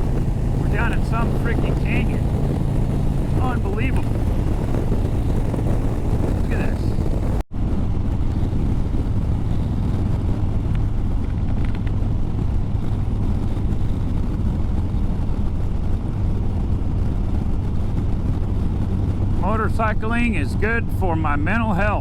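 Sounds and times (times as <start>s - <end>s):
motorcycle engine drone: 0.0s - 22.0s
road noise: 0.0s - 22.0s.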